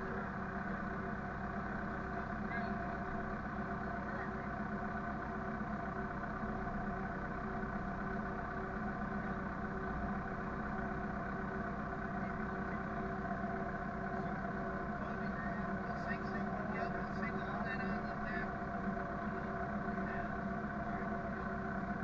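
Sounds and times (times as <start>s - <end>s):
vehicle engine running steadily: 0.0s - 22.0s.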